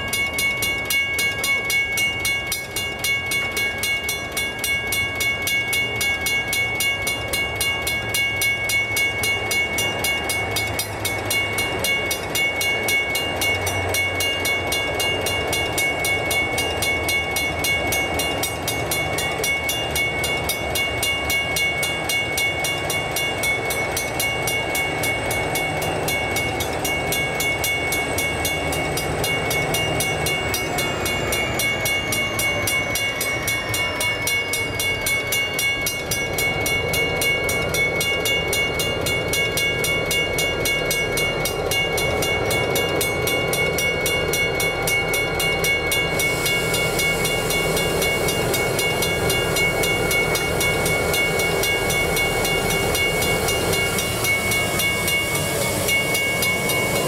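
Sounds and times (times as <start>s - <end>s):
diesel locomotive rumble: 0.0s - 57.0s
level crossing bells ringing: 0.0s - 57.0s.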